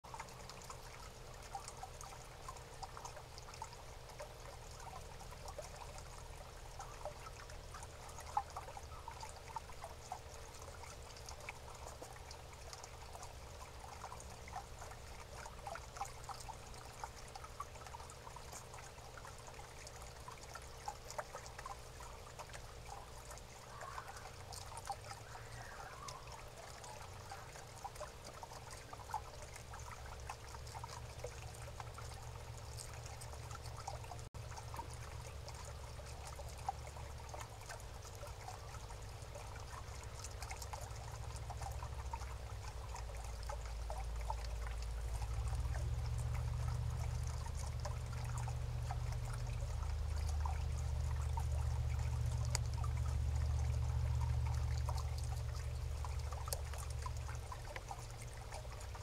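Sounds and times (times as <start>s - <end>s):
low steady hum: 0.0s - 59.0s
skunk chewing birdseed: 0.1s - 59.0s.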